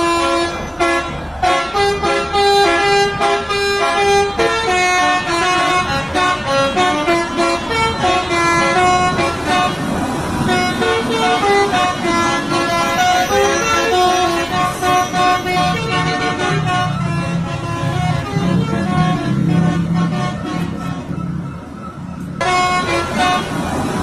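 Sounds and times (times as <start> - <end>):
musical air horns playing tune: 0.0 - 21.2, 22.4 - 23.7.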